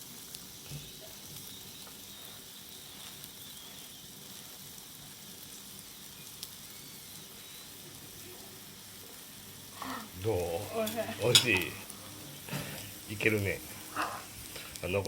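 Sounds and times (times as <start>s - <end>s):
vegetables sizzling on griddle: 0.0s - 15.0s.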